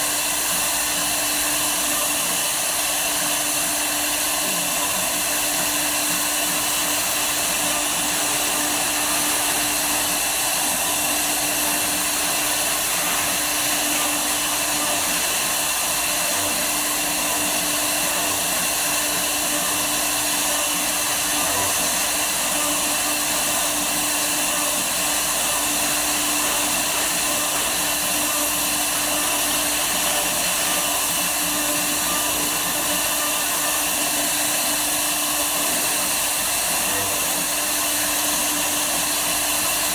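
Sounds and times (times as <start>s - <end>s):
cnc router running: 0.0s - 39.9s.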